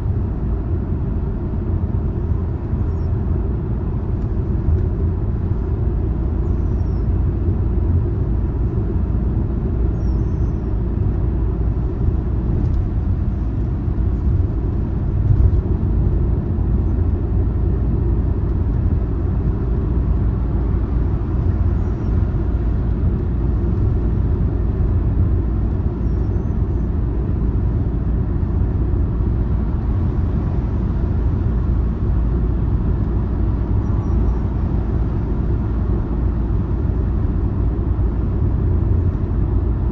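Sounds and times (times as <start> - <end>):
car engine rumble: 0.0 - 39.9
tyres on road: 0.0 - 39.9.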